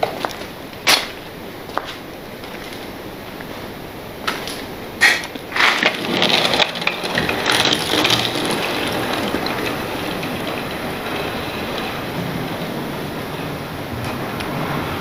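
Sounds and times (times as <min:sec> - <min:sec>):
steady noise: 0:00.0 - 0:15.0.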